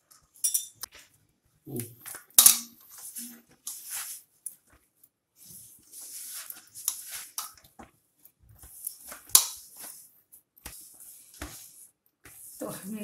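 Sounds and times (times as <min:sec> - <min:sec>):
hands kneading dough squishing: 0:00.9 - 0:13.0.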